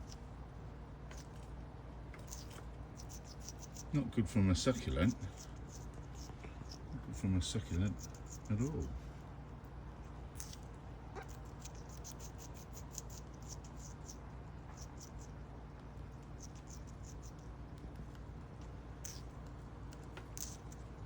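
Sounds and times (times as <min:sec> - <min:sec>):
parrot chewing leaves: 0:00.0 - 0:21.0.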